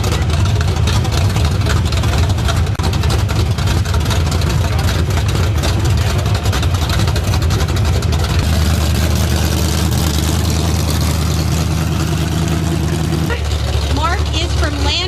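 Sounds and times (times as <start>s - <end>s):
car engine through open exhaust: 0.0s - 15.0s.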